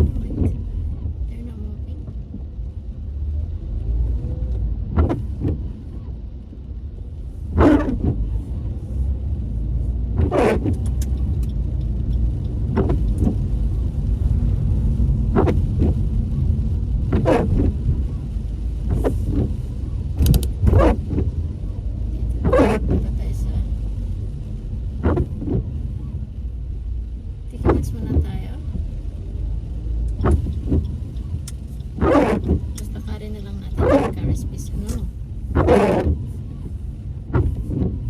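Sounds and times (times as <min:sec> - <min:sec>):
low rumble inside car: 0:00.0 - 0:38.0
windscreen wipers sweeping: 0:00.0 - 0:38.0.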